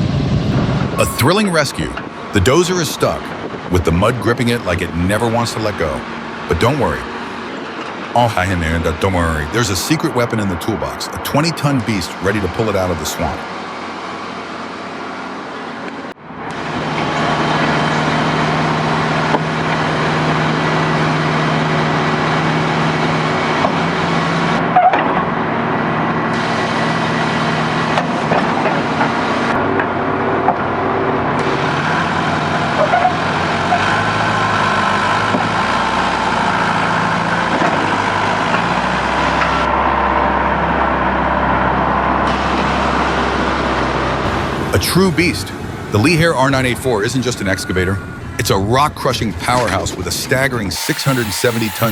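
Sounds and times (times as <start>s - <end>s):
heavy diesel engines running: 0.0s - 24.7s, 25.3s - 49.6s, 50.7s - 51.9s.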